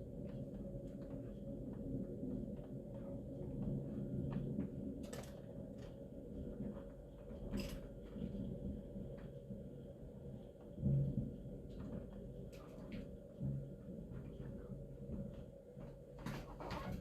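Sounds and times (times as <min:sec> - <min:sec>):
thunderstorm rumble: 0:00.0 - 0:15.5.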